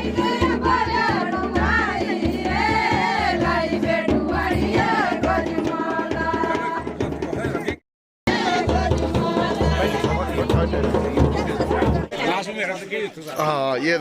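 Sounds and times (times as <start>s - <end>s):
people singing folk song: 0.0s - 12.2s
repeated drum beat: 0.0s - 12.2s.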